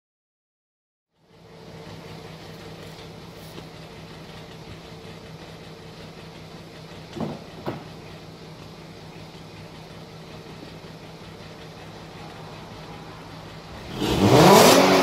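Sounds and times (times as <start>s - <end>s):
car engine idling: 1.2s - 15.0s.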